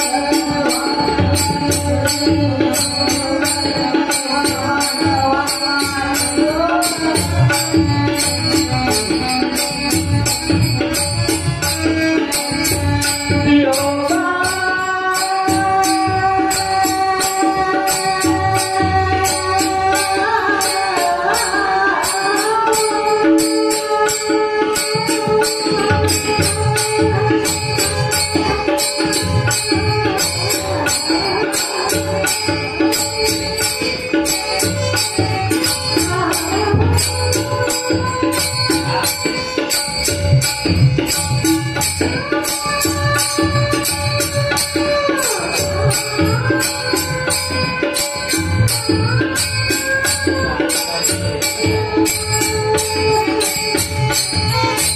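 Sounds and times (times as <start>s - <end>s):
jingling hand percussion: 0.0s - 54.9s
man singing devotional song: 0.0s - 54.9s.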